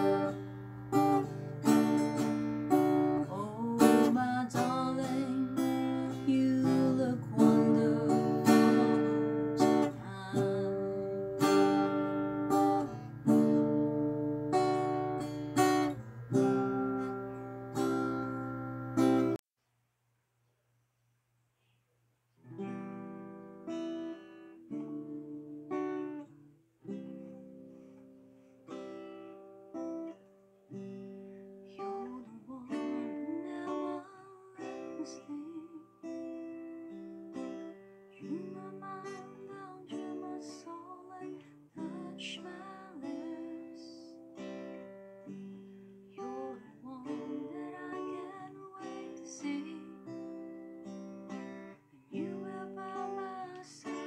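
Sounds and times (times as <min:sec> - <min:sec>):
acoustic guitar strumming: 0:00.0 - 0:19.4, 0:22.5 - 0:54.0.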